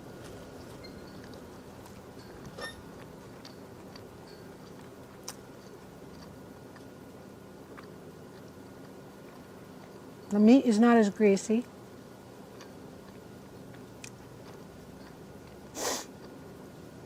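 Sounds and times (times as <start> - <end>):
quiet chewing: 0.0 - 10.5, 11.6 - 17.0
faint steady hum: 0.0 - 17.0.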